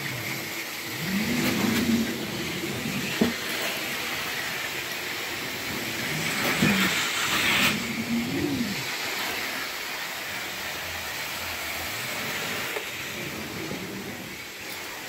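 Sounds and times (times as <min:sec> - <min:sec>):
carpet cleaner spray and suction: 0:00.0 - 0:15.0.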